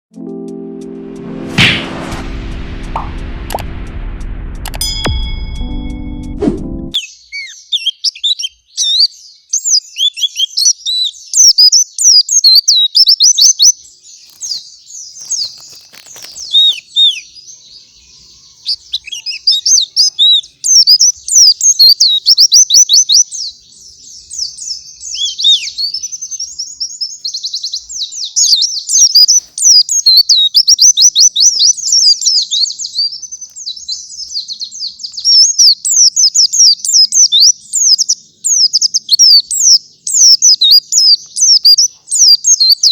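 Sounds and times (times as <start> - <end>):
bird singing rapid chirps and trills: 7.0 - 42.9.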